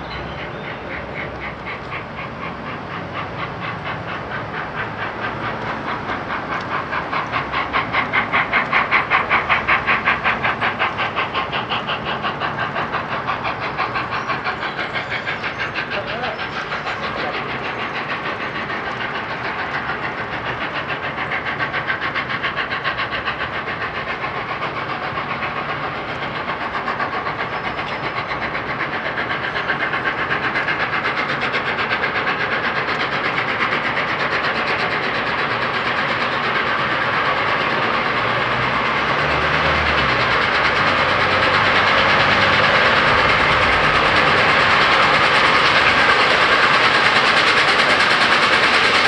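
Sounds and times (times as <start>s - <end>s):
steam locomotive exhaust beating: 0.0s - 49.0s.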